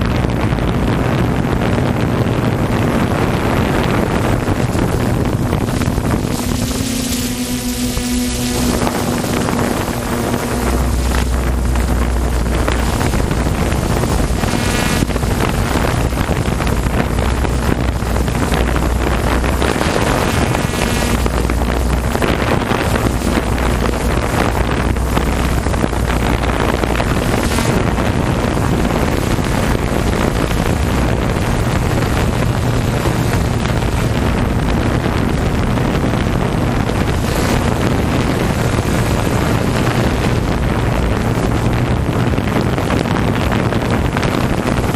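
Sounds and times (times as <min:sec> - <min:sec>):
jet ski engines droning: 0:00.0 - 0:44.9
wind noise on microphone: 0:00.0 - 0:44.9.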